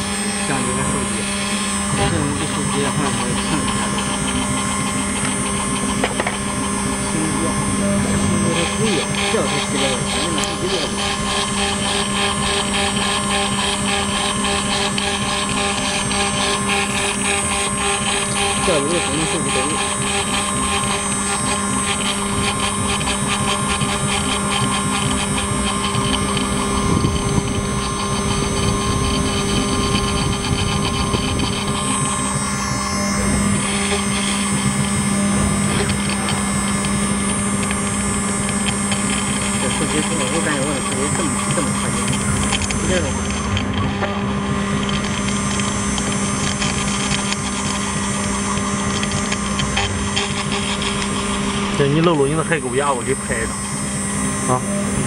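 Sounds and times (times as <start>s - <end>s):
engraving machine spindle hum: 0.0s - 55.0s.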